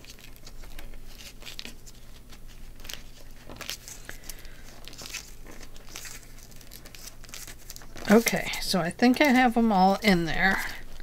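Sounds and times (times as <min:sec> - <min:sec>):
paper crackles: 0:00.0 - 0:11.0
paper pages rustling: 0:00.0 - 0:11.0.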